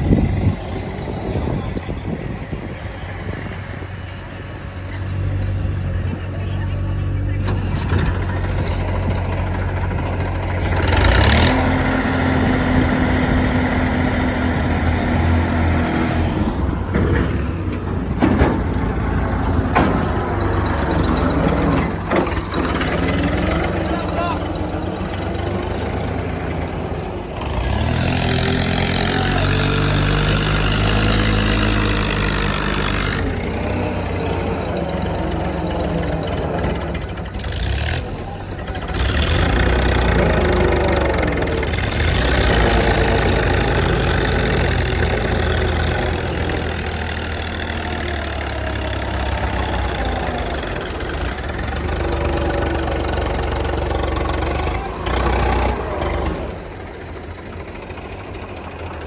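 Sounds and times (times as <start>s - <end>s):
backhoe diesel engine revving: 0.0s - 59.0s.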